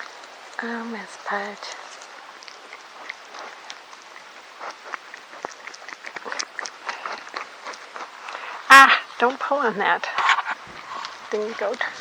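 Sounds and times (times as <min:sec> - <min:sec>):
footsteps crunching over ground: 0:00.0 - 0:12.0.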